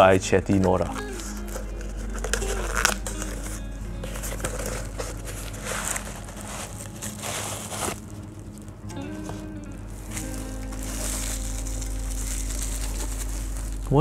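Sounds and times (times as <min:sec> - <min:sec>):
packaging crinkling and rustling: 0:00.5 - 0:14.0.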